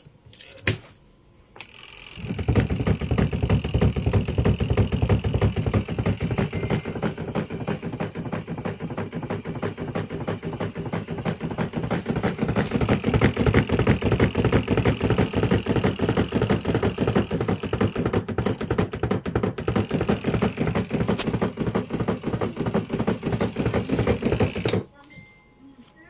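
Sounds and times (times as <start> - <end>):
washing machine drum rattling: 2.3 - 24.8.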